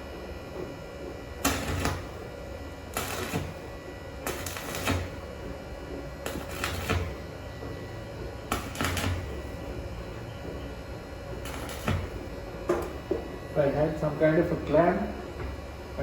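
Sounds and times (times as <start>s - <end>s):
steady low hum: 0.0s - 16.0s
welding arc crackling: 0.7s - 16.0s.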